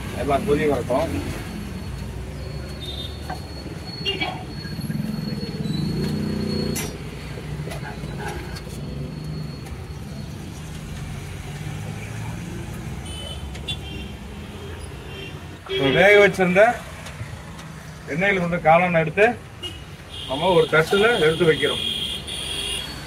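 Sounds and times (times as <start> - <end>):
vehicle engine: 0.0 - 21.5
street traffic rumbling: 0.0 - 23.0.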